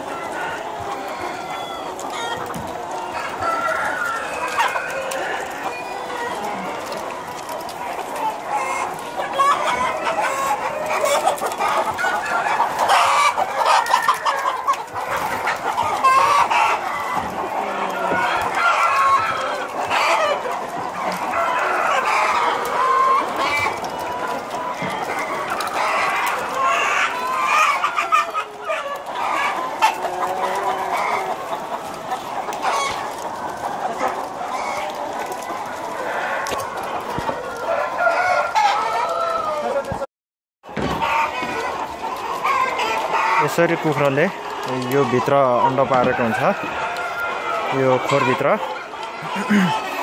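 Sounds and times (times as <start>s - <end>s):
hens clucking: 0.0s - 50.0s.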